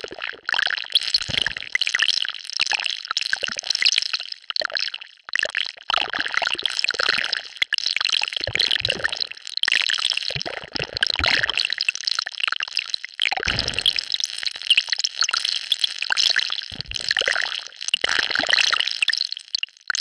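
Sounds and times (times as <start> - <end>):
liquid bubbling and crackling: 0.0 - 20.0.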